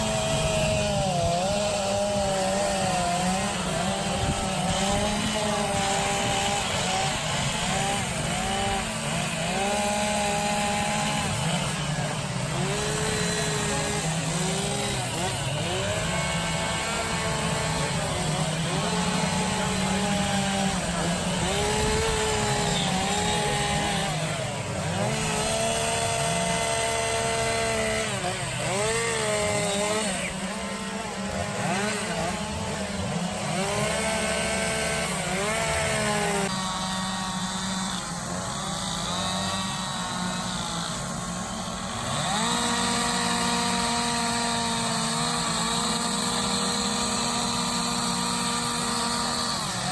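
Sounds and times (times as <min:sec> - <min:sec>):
chainsaws revving: 0:00.0 - 0:49.9.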